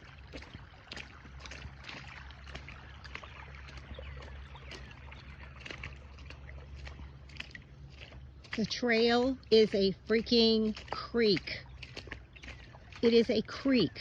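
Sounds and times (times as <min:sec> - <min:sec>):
floodwater splashing and trickling: 0:00.0 - 0:14.0
steady low hum: 0:00.0 - 0:14.0
wading through shallow water: 0:00.0 - 0:14.0.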